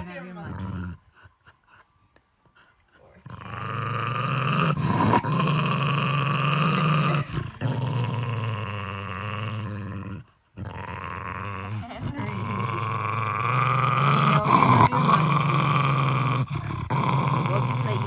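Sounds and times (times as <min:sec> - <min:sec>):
dog growling and snarling: 0:00.0 - 0:01.6, 0:03.0 - 0:18.0.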